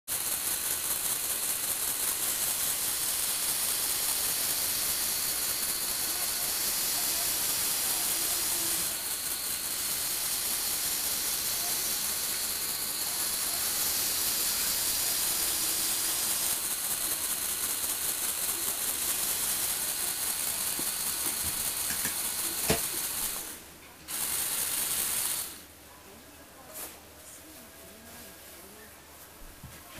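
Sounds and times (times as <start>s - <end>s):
electric motors whirring through gears: 0.1s - 25.7s.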